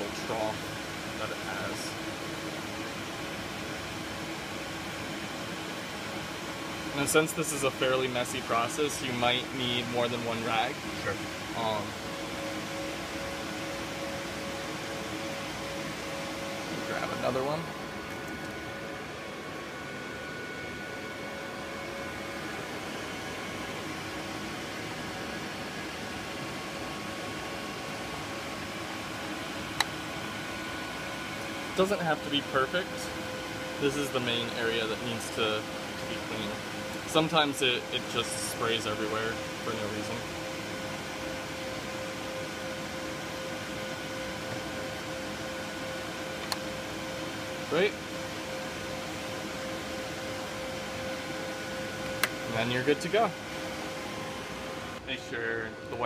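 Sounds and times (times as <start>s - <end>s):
machine fans whirring: 0.0s - 56.0s.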